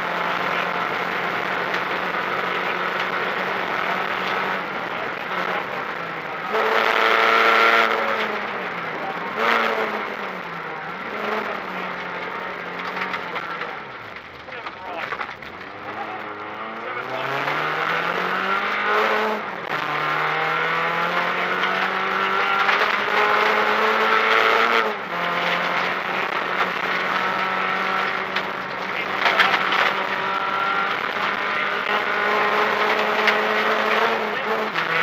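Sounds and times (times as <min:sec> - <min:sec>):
car engine at high revs: 0:00.0 - 0:35.0.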